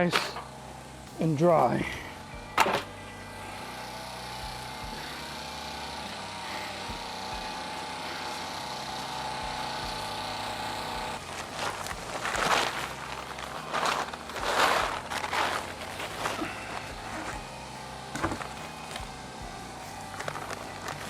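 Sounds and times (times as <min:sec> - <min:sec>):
machine drone with hum: 0:00.0 - 0:21.0.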